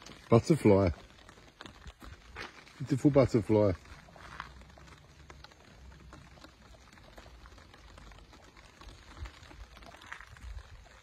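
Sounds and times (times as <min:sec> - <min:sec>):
raindrops ticking: 0:00.0 - 0:11.0.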